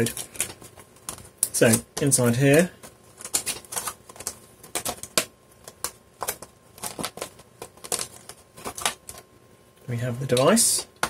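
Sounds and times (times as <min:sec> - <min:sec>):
plastic blister packaging crackling: 0:00.0 - 0:09.3.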